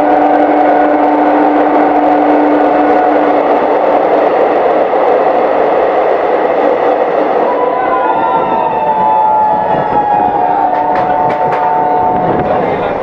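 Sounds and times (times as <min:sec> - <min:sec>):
train rushing through tunnel: 0:00.0 - 0:13.0.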